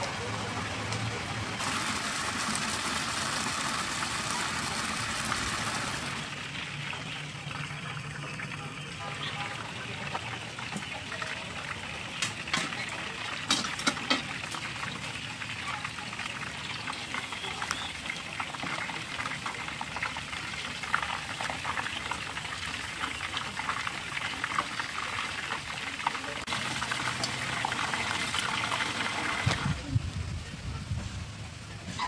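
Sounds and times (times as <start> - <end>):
hot oil bubbling and crackling: 0.0 - 32.0.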